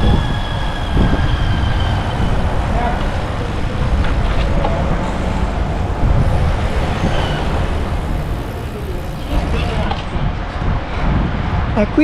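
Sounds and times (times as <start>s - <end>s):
wind and road noise on microphone: 0.0s - 12.0s.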